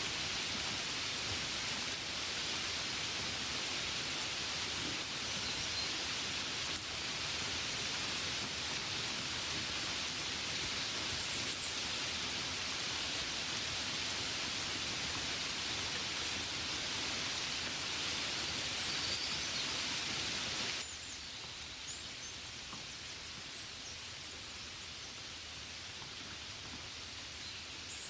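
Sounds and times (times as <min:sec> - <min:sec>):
background hiss: 0:00.0 - 0:28.0
rain hiss: 0:00.0 - 0:28.0.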